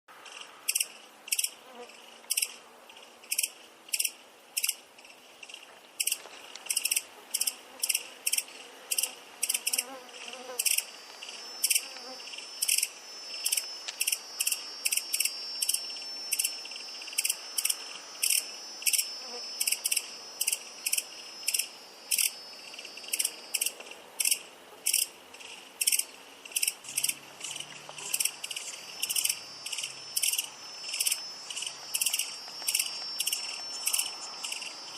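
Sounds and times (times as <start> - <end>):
grasshopper chirping: 0.2 - 34.9
high insect trill: 0.2 - 34.9.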